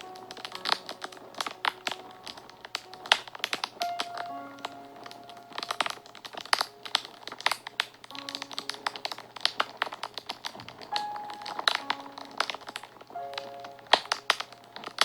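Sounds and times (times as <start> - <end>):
fire crackling and popping: 0.0 - 15.0
soft background music: 0.0 - 15.0.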